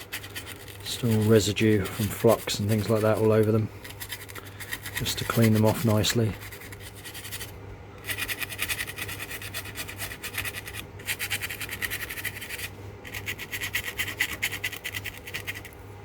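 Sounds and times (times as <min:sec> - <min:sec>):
fibreglass pen scratching circuit board: 0:00.0 - 0:15.8.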